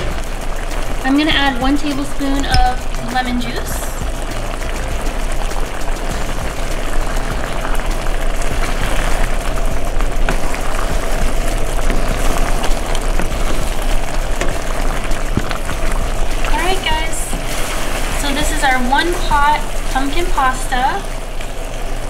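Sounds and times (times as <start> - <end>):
sauce boiling with bubbling pops: 0.0 - 22.0.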